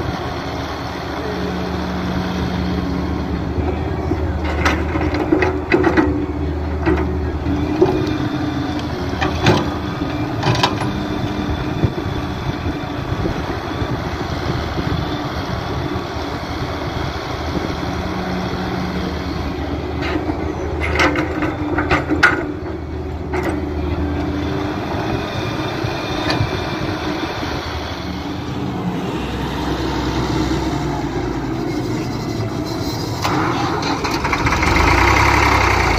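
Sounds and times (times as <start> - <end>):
diesel engines running: 0.0 - 35.9.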